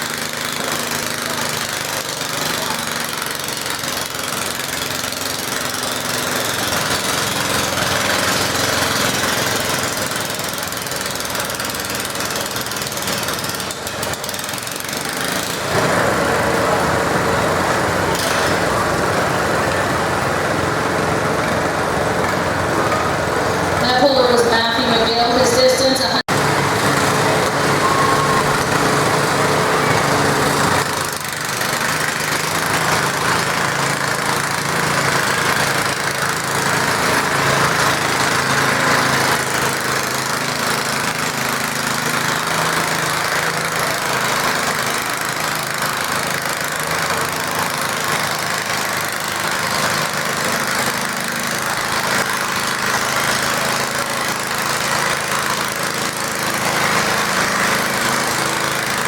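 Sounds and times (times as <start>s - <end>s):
small tractor engine running hard: 0.0s - 59.0s.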